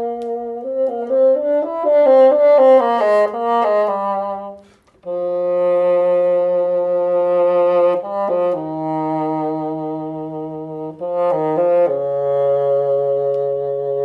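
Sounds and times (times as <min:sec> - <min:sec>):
bassoon playing low notes: 0:00.0 - 0:14.0.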